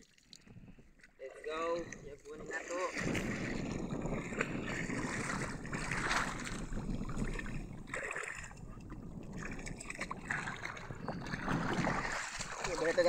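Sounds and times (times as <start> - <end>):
wading through shallow water: 0.0 - 13.0.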